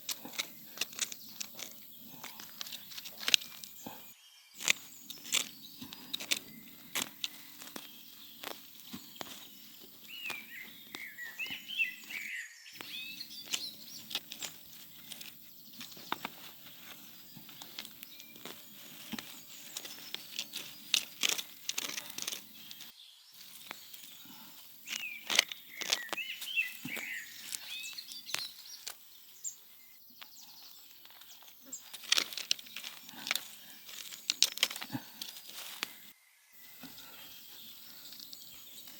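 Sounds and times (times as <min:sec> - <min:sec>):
handling clicks and knocks: 0:00.0 - 0:12.2, 0:12.8 - 0:29.0, 0:30.9 - 0:36.1
bird singing: 0:00.0 - 0:38.9.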